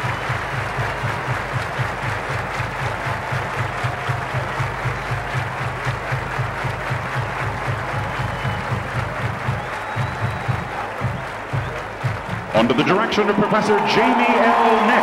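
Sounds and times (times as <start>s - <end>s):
fast low beat: 0.0s - 12.9s
stadium crowd cheering and applauding: 0.0s - 15.0s.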